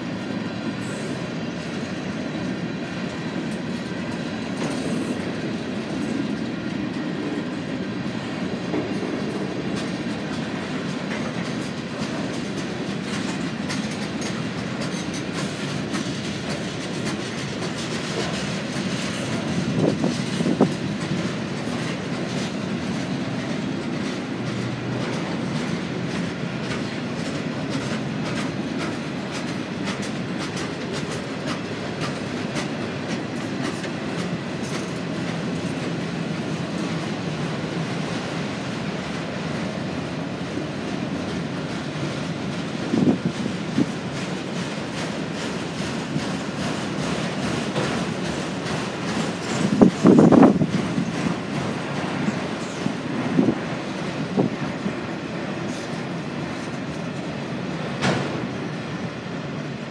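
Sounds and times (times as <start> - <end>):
freight train rolling past: 0.0 - 59.9
loud train clanks: 0.0 - 59.9
wheels clicking over rail joints: 0.1 - 58.7.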